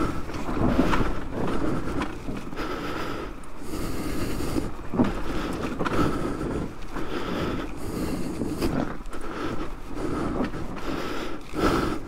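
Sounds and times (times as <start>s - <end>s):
trail bike engine running: 0.0s - 12.0s.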